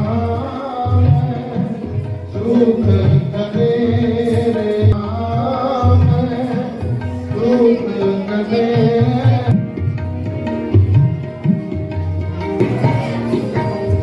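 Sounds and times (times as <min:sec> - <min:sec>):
tabla drumming: 0:00.0 - 0:14.0.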